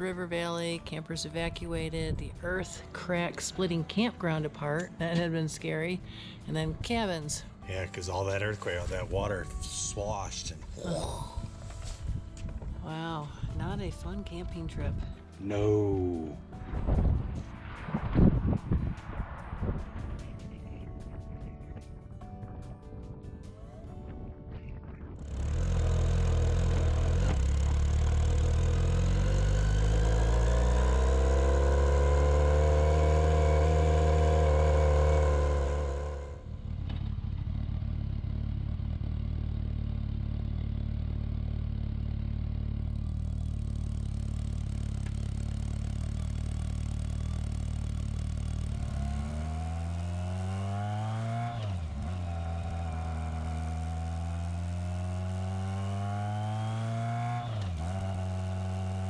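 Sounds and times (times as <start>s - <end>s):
motorcycle engine accelerating: 1.7s - 21.6s, 24.7s - 59.0s.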